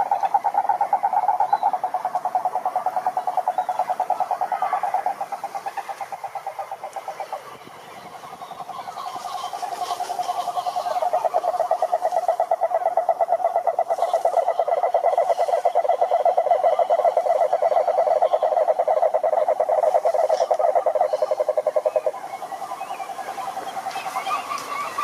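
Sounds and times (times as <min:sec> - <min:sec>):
frogs trilling: 0:00.0 - 0:25.0.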